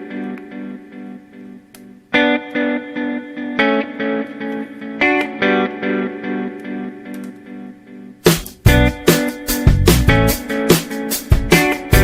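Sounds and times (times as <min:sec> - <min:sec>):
distorted electric guitar chords: 0:00.0 - 0:12.0.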